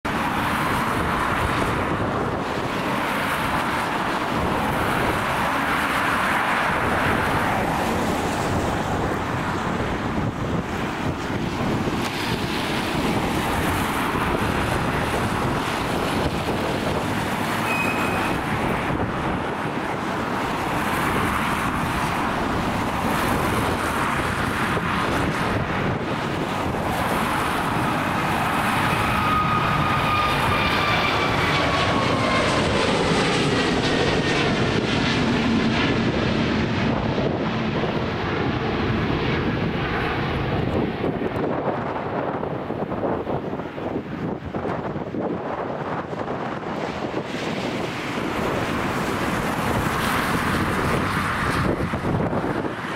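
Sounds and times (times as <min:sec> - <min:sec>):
jet engines at take-off thrust: 0:00.0 - 0:52.9.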